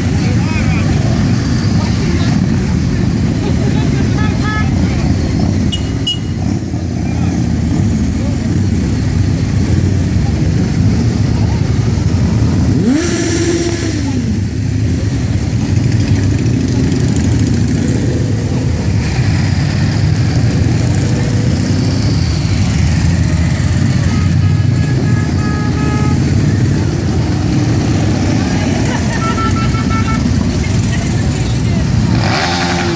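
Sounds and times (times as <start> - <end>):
motorcycle engines rumbling: 0.0 - 32.9.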